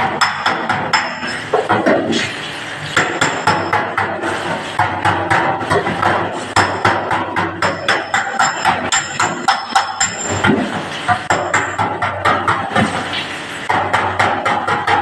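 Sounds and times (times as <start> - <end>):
hammer tapping sheet metal: 0.0 - 2.1, 2.9 - 15.0.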